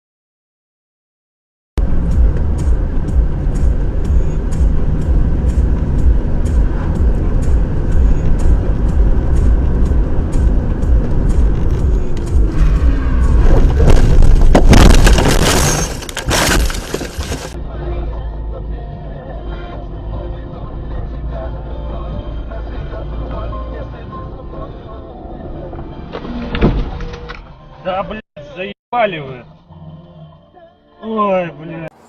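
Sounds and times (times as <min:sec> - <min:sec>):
car engine and road rumble: 0:01.8 - 0:28.2.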